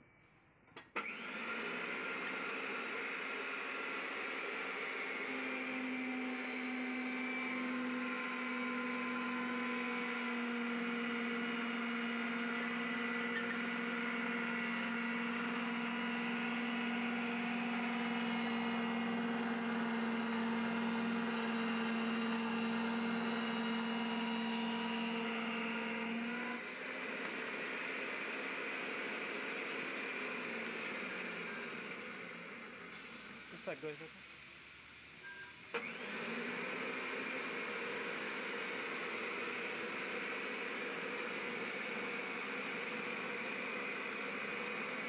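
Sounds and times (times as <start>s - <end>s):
pipe threader motor hum: 0.8s - 3.2s, 3.8s - 33.9s, 35.7s - 45.0s.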